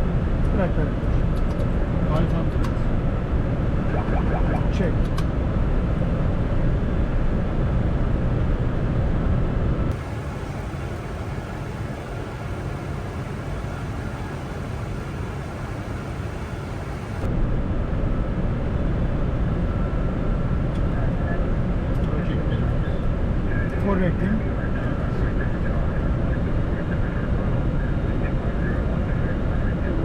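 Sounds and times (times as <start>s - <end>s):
cockpit airflow and engine rumble: 0.0s - 30.0s.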